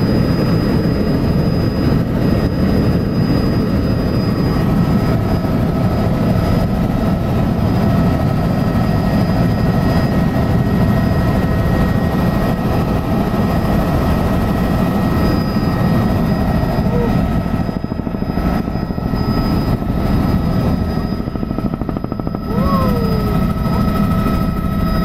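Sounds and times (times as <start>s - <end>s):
helicopter rotor and engine rumble: 0.0s - 25.0s.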